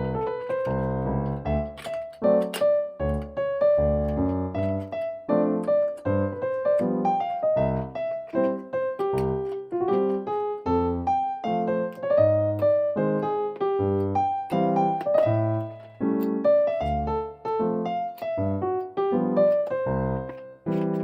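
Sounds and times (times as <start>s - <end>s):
piano melody over bass line: 0.0s - 21.0s.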